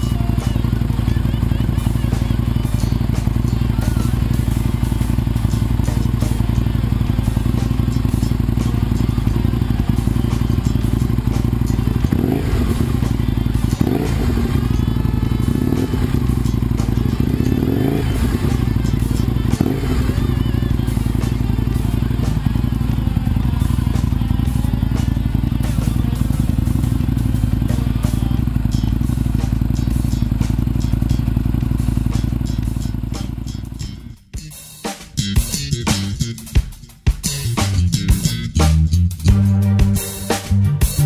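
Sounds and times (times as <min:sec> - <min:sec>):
motorcycle throttle blips: 0:00.0 - 0:34.4
motorcycle engine idling: 0:00.0 - 0:34.5.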